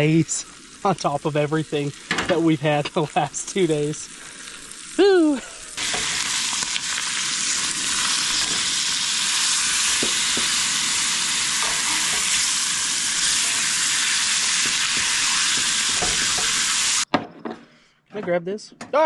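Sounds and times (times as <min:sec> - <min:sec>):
fish sizzling in skillet: 0:00.0 - 0:17.1.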